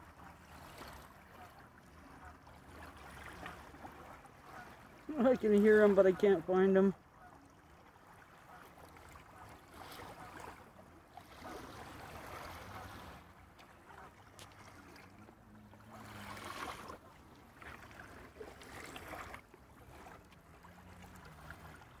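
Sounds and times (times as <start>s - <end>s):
small waves lapping on sand: 0.0s - 22.0s.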